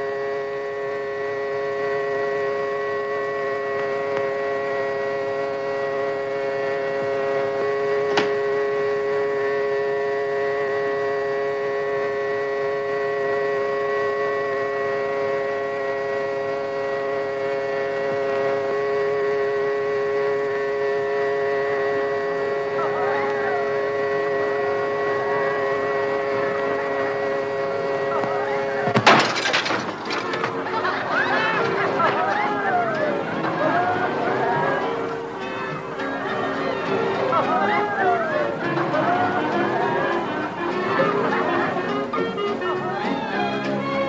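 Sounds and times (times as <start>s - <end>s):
car horn blaring: 0.0s - 43.0s.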